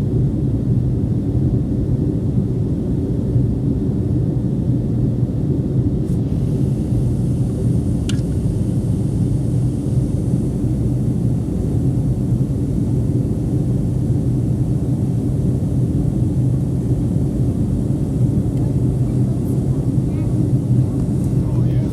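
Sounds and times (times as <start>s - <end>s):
airplane cabin engine drone: 0.0s - 21.9s.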